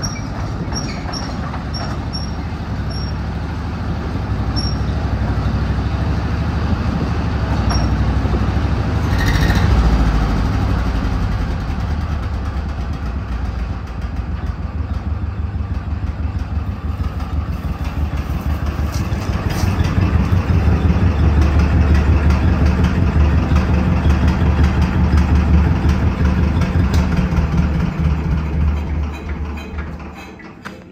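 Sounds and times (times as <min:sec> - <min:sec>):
tractor engine idling: 0:00.0 - 0:30.9.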